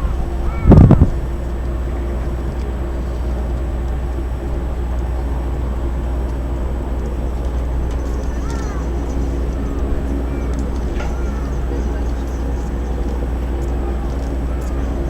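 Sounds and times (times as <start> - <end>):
faint steady hum: 0.0 - 15.0
low harbour rumble: 0.0 - 15.0.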